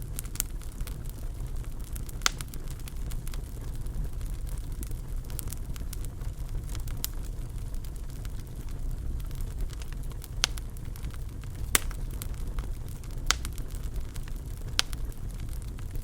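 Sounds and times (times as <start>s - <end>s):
sharp pops of burning wood: 0.0s - 16.0s
wood fire crackling: 0.0s - 16.0s.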